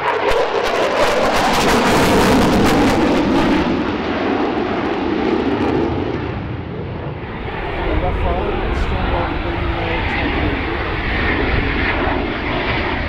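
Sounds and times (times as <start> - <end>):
aircraft flying past: 0.0 - 13.0.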